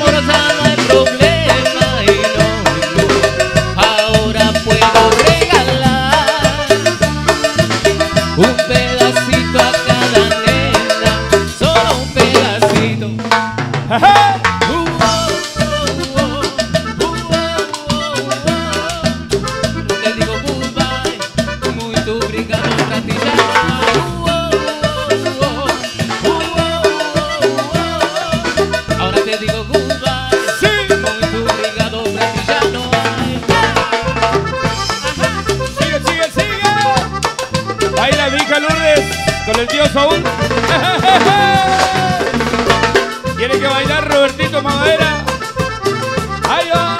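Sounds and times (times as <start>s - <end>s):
fast drum and percussion beat: 0.0s - 46.9s
latin dance band playing: 0.0s - 46.9s.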